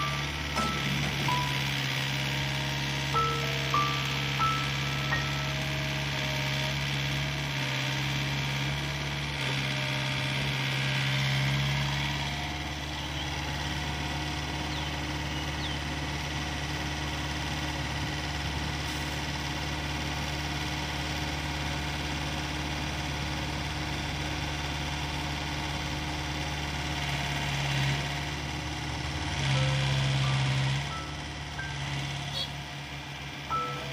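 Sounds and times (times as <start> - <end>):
heavy machinery diesel engine: 0.0 - 33.9.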